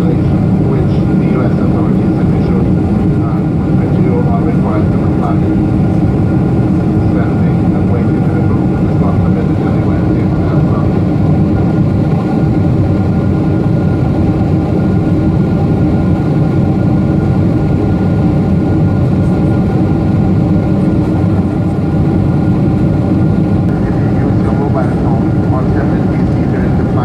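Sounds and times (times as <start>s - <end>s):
jet engines in aircraft cabin: 0.0s - 27.0s.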